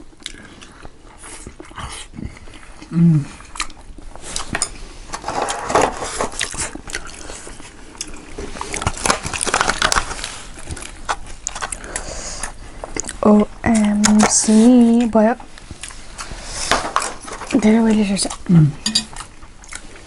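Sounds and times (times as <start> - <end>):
chewing and crunching fried food: 0.0 - 20.0.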